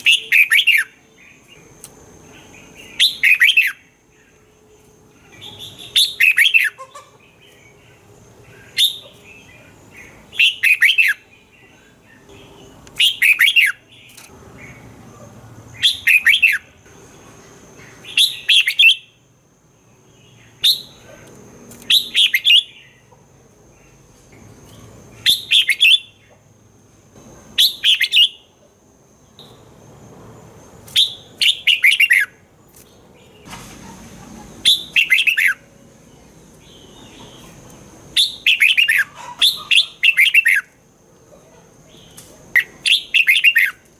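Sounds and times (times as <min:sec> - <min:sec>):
bird singing warbled phrases: 0:00.0 - 0:26.4, 0:27.5 - 0:28.6, 0:30.9 - 0:43.9.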